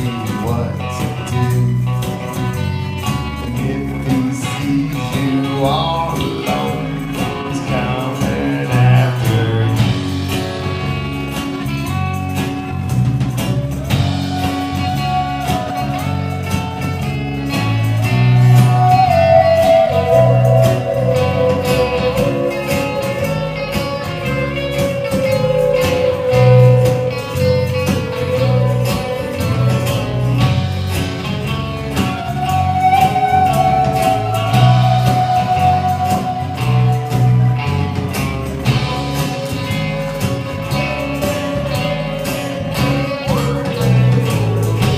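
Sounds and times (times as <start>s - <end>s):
live blues rock band: 0.0s - 44.9s
sliding lead guitar notes: 0.0s - 44.9s.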